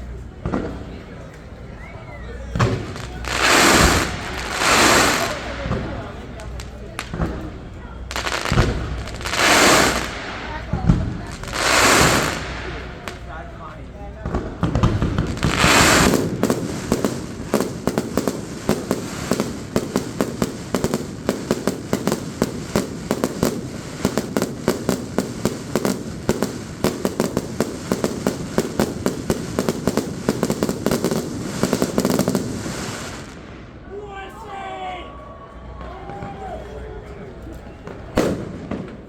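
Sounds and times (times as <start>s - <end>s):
fireworks bangs and crackles: 0.0s - 33.8s, 36.1s - 36.5s, 37.4s - 39.0s.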